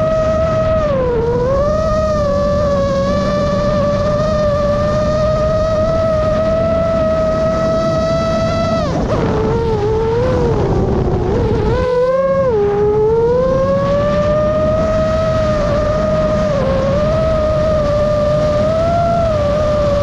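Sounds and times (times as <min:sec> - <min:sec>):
quadcopter motors whining: 0:00.0 - 0:20.0
steady low rush: 0:00.0 - 0:20.0.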